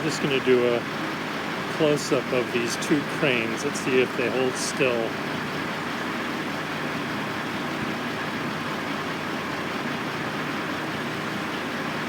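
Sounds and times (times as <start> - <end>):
construction machinery engines: 0.0 - 12.0.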